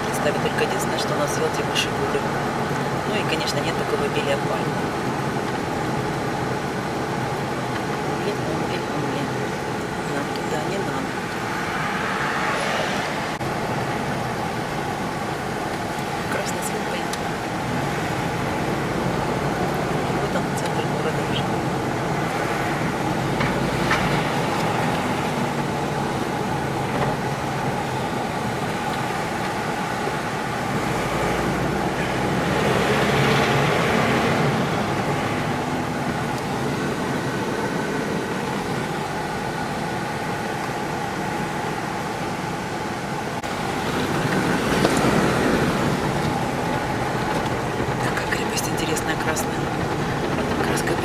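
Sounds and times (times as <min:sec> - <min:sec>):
road noise: 0:00.0 - 0:51.0
vehicle engine running: 0:00.0 - 0:51.0.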